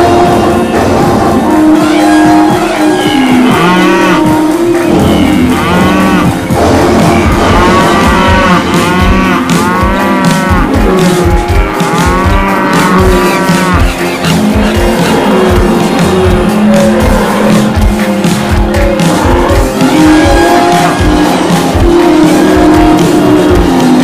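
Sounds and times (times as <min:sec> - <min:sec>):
background music: 0:00.0 - 0:24.0
cow mooing: 0:00.0 - 0:24.0.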